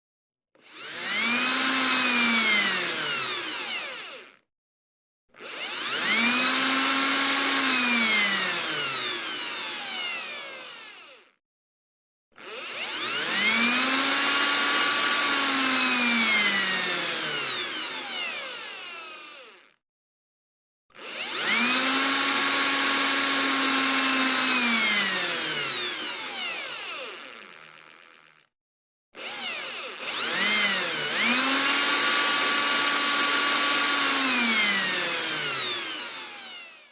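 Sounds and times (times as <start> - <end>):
power drill whining: 0.6 - 4.5, 5.3 - 11.4, 12.4 - 19.8, 20.9 - 28.6, 29.2 - 36.9.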